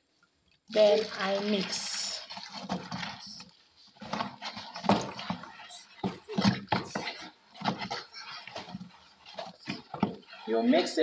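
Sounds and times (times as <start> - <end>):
stick stirring in plastic bucket: 0.1 - 11.0.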